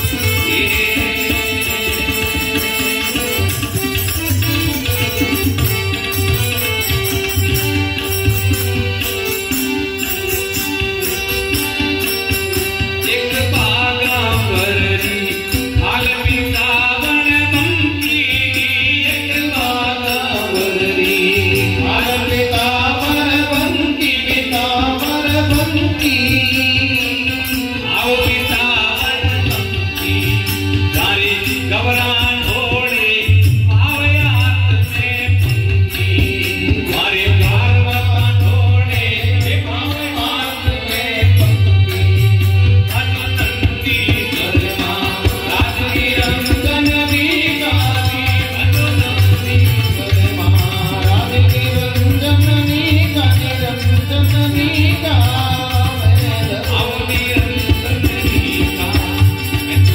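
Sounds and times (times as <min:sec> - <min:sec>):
harmonium: 0:00.0 - 0:59.9
man singing devotional song: 0:00.0 - 0:59.9
tabla drumming: 0:00.0 - 0:59.9.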